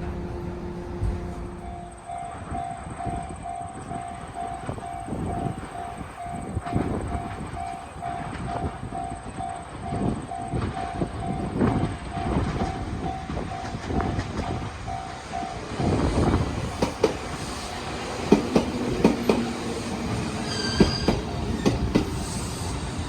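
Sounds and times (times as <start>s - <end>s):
train rail rumble: 0.0s - 23.0s.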